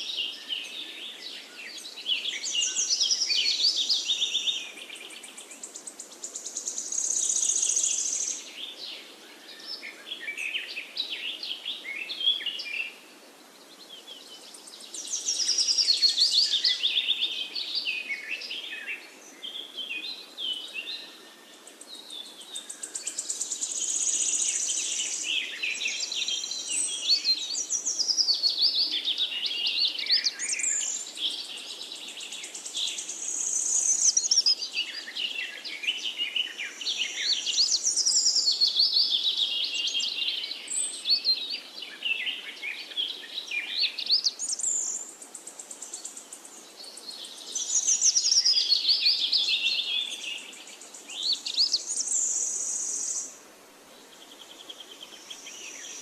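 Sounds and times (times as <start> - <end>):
faint background hiss: 0.0 - 56.0
songbirds chirping: 0.0 - 56.0.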